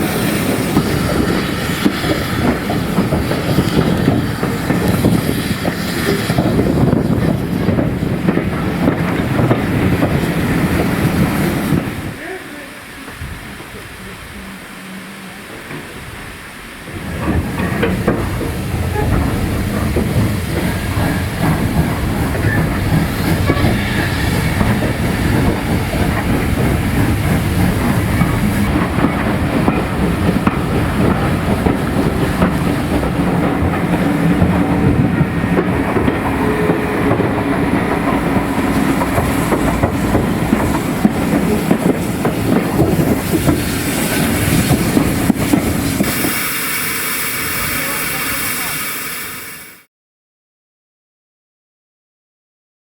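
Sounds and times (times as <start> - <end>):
wheels clattering over rail joints: 0.0 - 12.2, 15.4 - 46.4
train rumbling on rails: 0.0 - 49.9.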